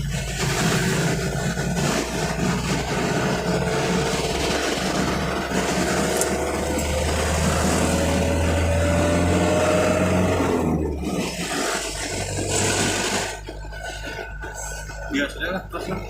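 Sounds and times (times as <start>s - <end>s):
road noise: 0.0s - 16.0s
vehicle engine humming: 0.0s - 16.0s
faint rising whine: 0.2s - 16.0s.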